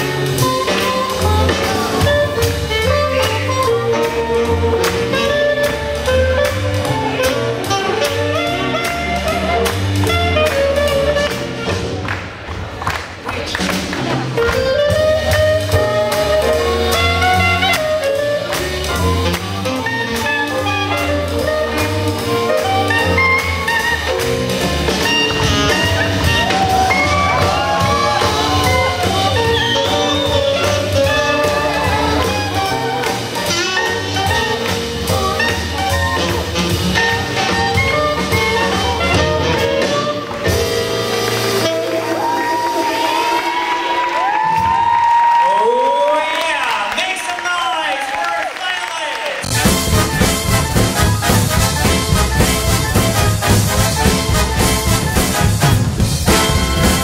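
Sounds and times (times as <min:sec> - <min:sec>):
swing jazz band playing: 0:00.0 - 0:44.9, 0:49.4 - 0:57.0.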